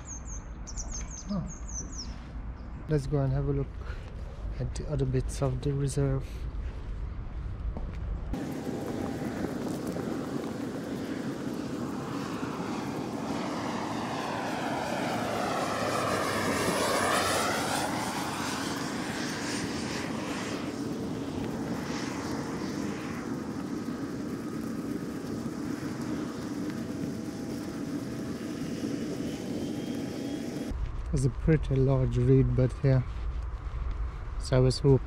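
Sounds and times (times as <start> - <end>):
aeroplane flying overhead: 0.0 - 35.0.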